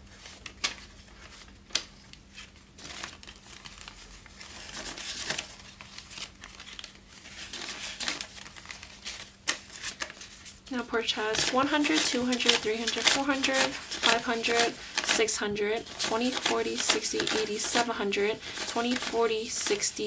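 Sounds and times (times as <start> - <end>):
paper bills rustling: 0.0 - 20.0.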